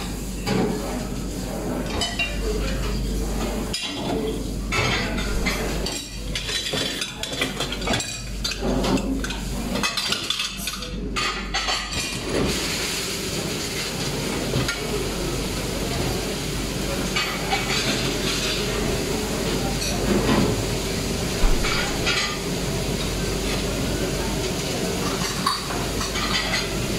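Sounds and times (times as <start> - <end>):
conveyor dishwasher running: 0.0 - 26.9.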